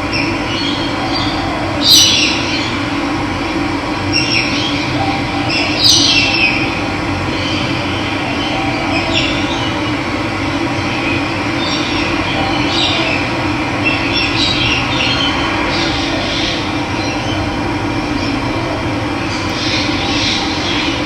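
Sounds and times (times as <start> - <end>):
birds calling: 0.0 - 21.0.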